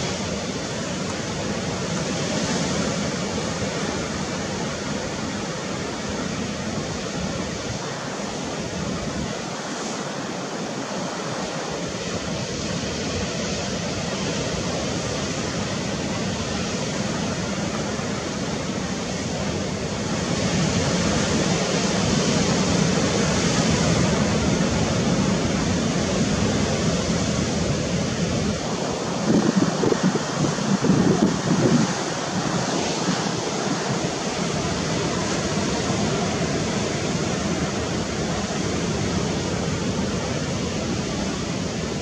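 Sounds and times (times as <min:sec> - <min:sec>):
sea surf rushing: 0:00.0 - 0:42.0
wind: 0:00.0 - 0:42.0.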